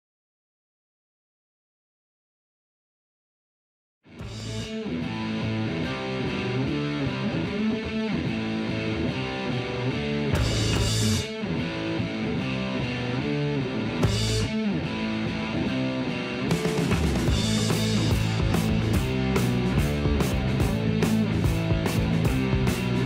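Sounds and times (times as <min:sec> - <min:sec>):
rock music with electric guitar: 0:04.1 - 0:23.0.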